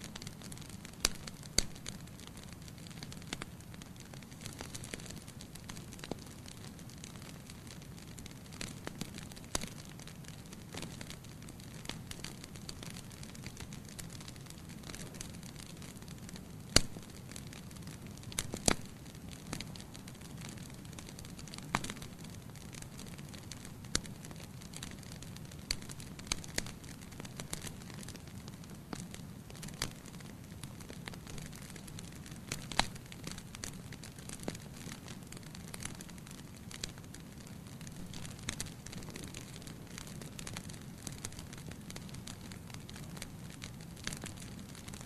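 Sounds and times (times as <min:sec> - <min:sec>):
fire crackling and popping: 0:00.0 - 0:45.0
low fire rumble: 0:00.0 - 0:45.0.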